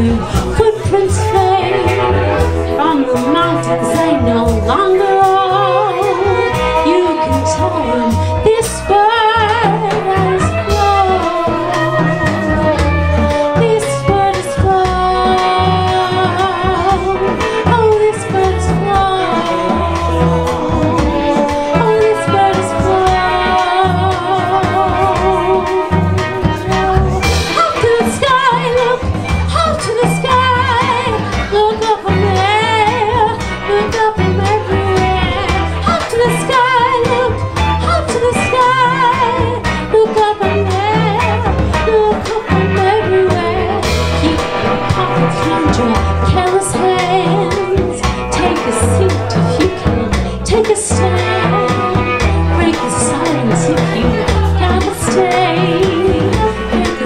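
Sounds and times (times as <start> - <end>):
bass guitar: 0.0 - 57.0
drum kit: 0.0 - 57.0
electric guitar: 0.0 - 57.0
woman singing with vibrato: 0.0 - 57.0.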